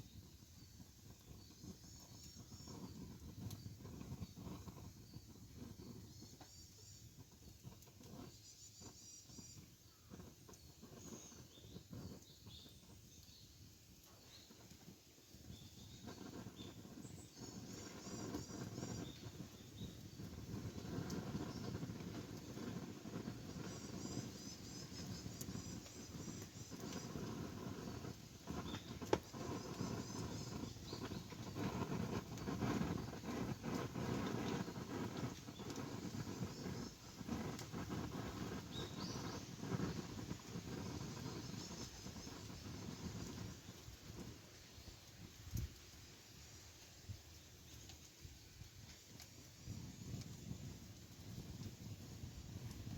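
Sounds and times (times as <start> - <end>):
small birds chirping: 0.0 - 45.9
campfire crackling: 0.0 - 52.9.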